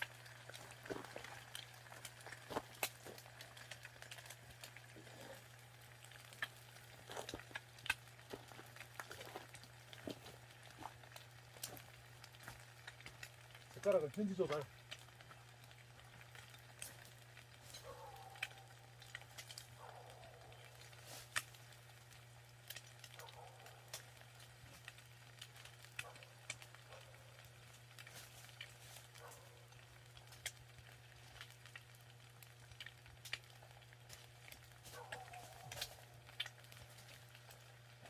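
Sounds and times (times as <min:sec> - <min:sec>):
eggs sizzling in a pan: 0:00.0 - 0:38.0
small clicks and pops: 0:00.0 - 0:38.0
wood fire crackling: 0:00.0 - 0:38.0.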